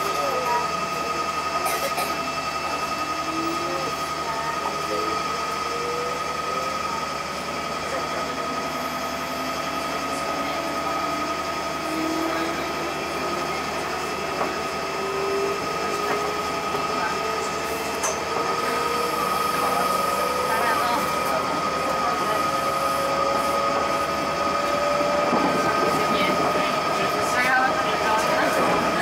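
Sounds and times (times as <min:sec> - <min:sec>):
electric train motor whine: 0:00.0 - 0:29.0
train wheels on rails: 0:00.0 - 0:29.0.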